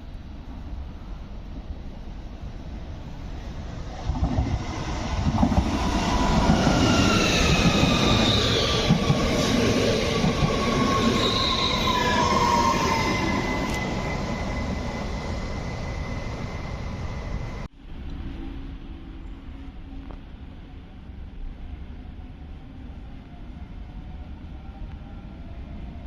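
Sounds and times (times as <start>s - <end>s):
train wheels rumbling on rails: 0.0s - 21.7s.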